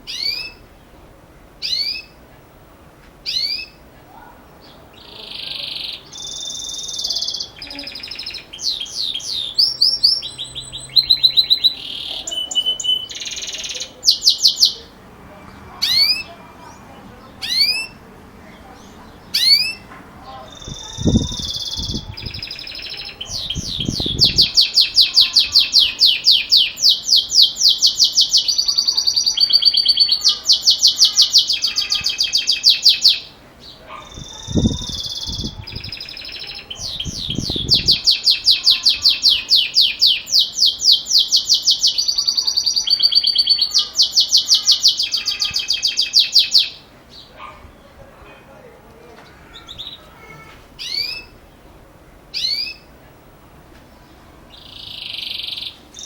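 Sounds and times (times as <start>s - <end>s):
canary singing trills: 0.0s - 1.0s, 1.6s - 2.3s, 3.2s - 48.5s, 49.3s - 56.0s.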